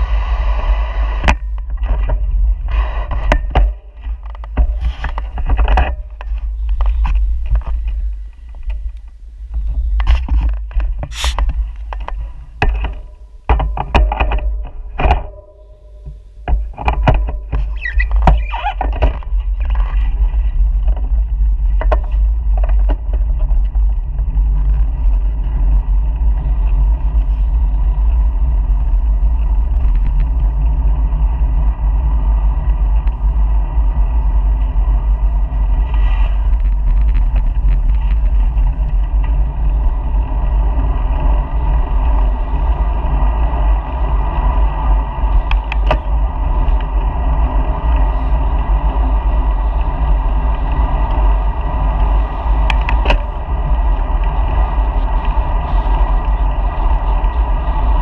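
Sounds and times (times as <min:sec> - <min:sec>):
wind and riding noise: 0:00.0 - 0:58.0.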